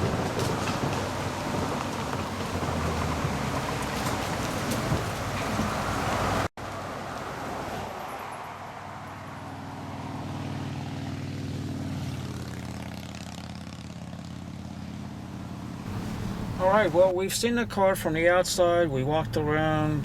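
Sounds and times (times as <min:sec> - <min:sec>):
car engine driving past: 0:00.0 - 0:17.1.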